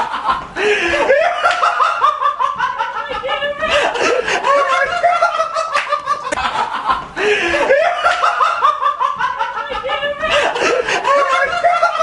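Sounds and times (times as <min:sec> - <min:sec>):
high-pitched laughter: 0:01.0 - 0:12.0.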